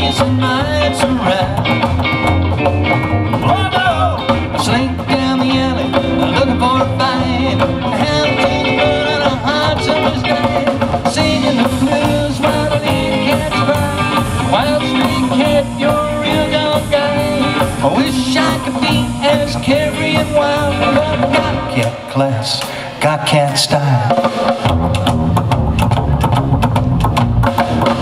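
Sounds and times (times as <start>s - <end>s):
person singing: 0.0s - 1.9s, 3.4s - 24.4s
upright double bass: 0.0s - 21.9s, 22.6s - 28.0s
drum kit: 0.0s - 28.0s
electric guitar: 0.0s - 28.0s.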